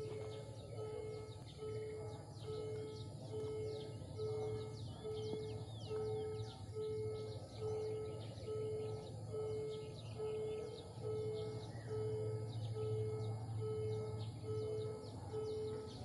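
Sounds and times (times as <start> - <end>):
faint background hum: 0.0 - 16.0
low repeating beep: 0.0 - 16.0
small birds chirping: 0.0 - 16.0.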